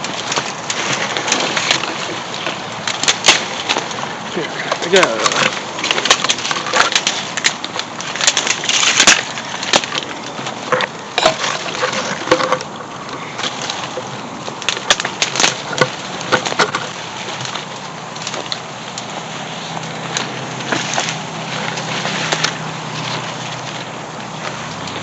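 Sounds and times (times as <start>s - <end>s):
dry brush crackling: 0.0s - 25.0s
twigs snapping underfoot: 0.0s - 25.0s.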